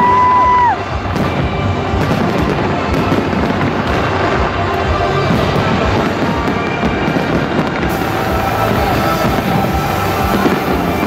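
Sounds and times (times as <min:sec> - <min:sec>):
fireworks crackling: 0:00.0 - 0:11.0
music: 0:00.0 - 0:11.0.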